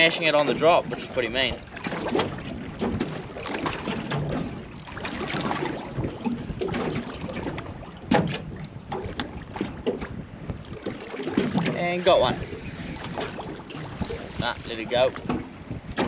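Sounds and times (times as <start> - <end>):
sea lapping against boat hull: 0.0 - 16.0
wind on microphone: 0.0 - 16.0.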